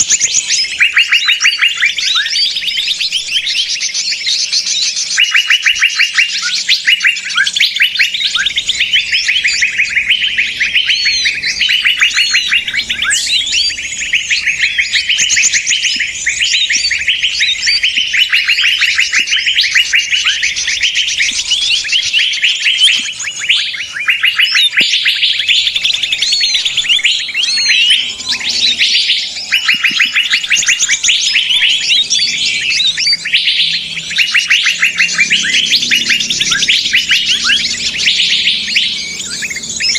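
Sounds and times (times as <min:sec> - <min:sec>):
songbirds chattering and trilling: 0:00.0 - 0:39.9.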